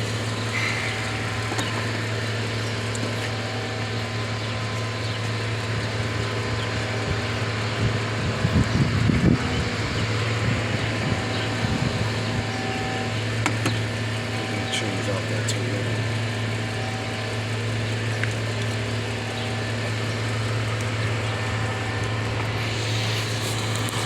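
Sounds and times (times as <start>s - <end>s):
engine idling: 0.0s - 24.0s
uneven low rumbling: 0.0s - 24.0s.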